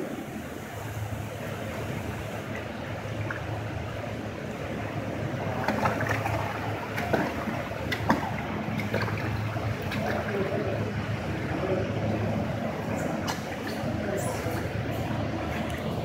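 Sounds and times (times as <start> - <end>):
low motor hum: 0.0 - 16.0
water churning and bubbling: 0.0 - 16.0.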